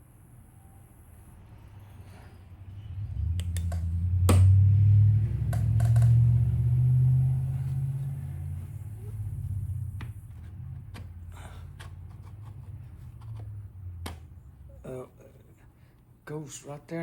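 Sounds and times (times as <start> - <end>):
low droning hum: 0.6 - 15.9.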